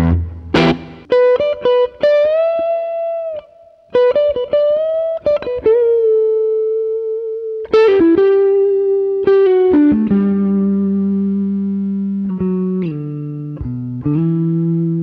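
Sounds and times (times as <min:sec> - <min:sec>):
electric guitar lead line: 0:00.0 - 0:15.0.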